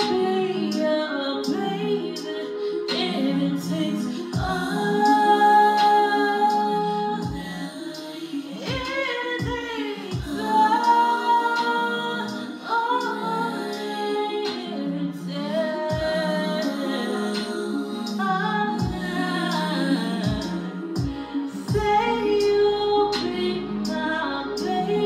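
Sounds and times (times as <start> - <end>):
backing music: 0.0 - 25.0
woman singing into a microphone: 0.0 - 25.0.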